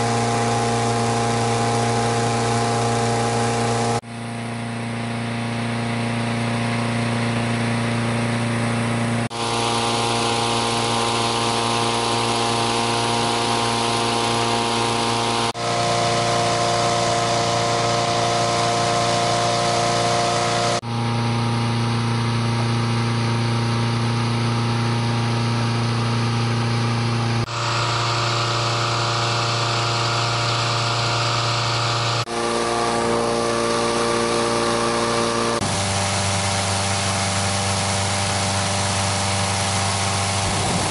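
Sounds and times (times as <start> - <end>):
petrol engine fan running: 0.0 - 40.9.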